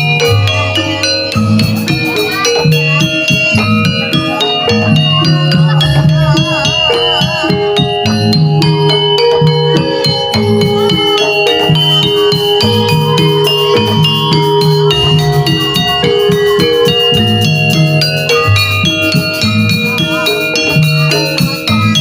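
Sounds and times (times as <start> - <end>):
metallophones ringing melody: 0.0 - 22.0
wavering melody line: 0.0 - 22.0.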